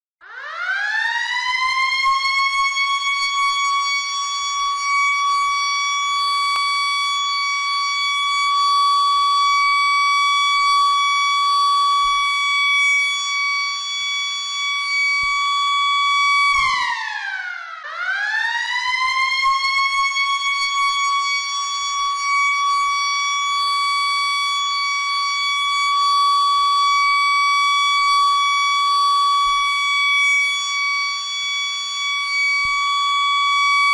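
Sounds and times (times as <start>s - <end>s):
siren wailing: 0.3s - 33.9s.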